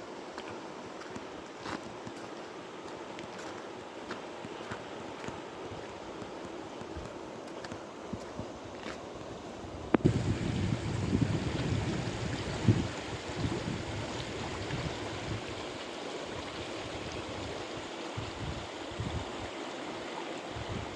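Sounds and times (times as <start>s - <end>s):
river water rushing: 0.1s - 20.9s.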